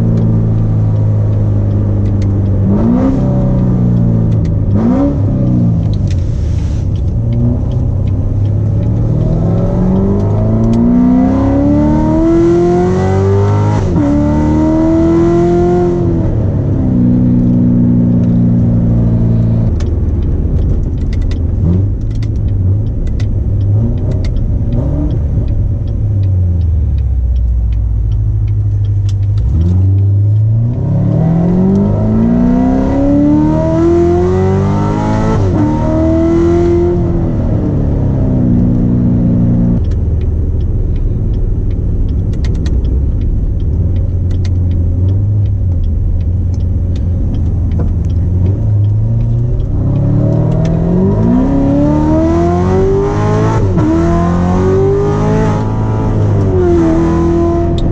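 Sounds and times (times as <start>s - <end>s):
car engine revving hard with gear shifts: 0.0s - 57.9s.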